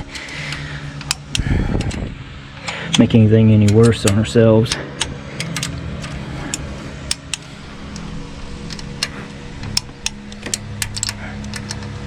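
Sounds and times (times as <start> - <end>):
torque wrench ratchet clicks: 0.0 - 2.0, 2.6 - 11.9
low hum: 0.0 - 12.0.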